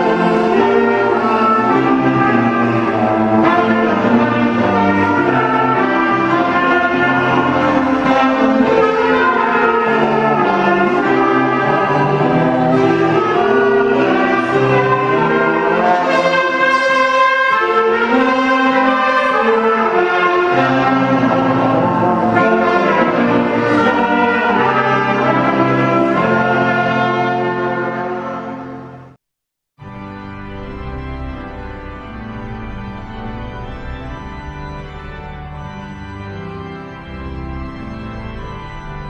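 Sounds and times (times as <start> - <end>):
brass held chords: 0.0 - 29.2, 29.8 - 39.0
student ensemble playing: 0.0 - 29.2, 29.9 - 39.0.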